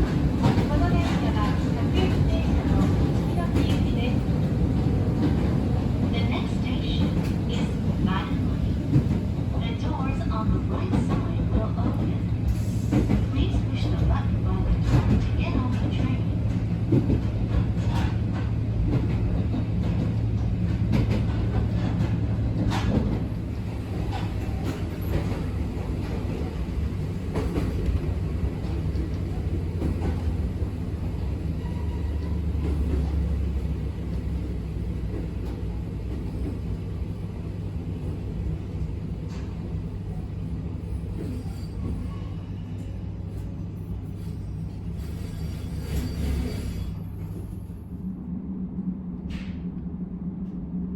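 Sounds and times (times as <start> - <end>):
electric train hum: 0.0 - 50.9
rail rumble: 0.0 - 50.9.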